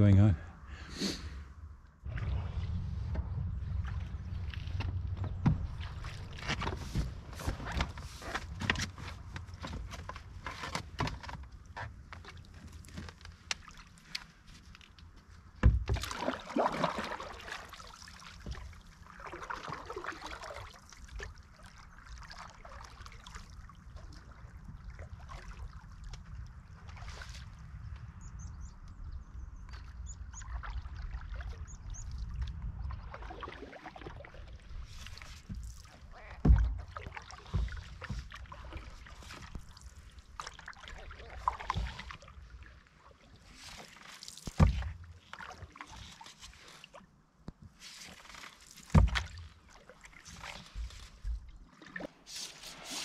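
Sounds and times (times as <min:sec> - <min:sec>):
water sloshing: 0:02.0 - 0:27.8, 0:29.6 - 0:47.1, 0:47.7 - 0:53.0.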